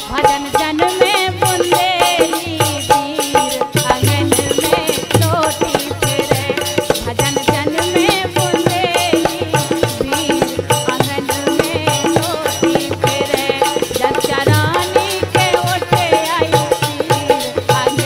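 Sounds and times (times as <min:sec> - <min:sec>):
rhythmic folk percussion: 0:00.0 - 0:18.0.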